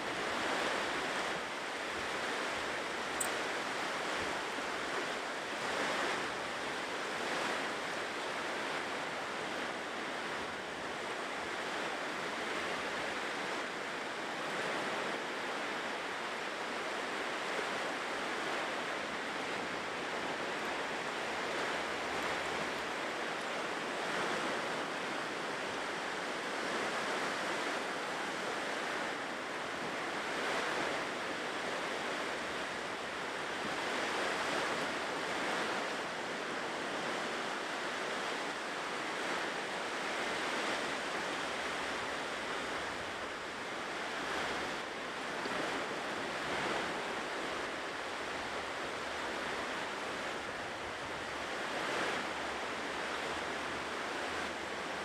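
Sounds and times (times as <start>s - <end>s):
ocean surf breaking on shore: 0.0s - 55.0s.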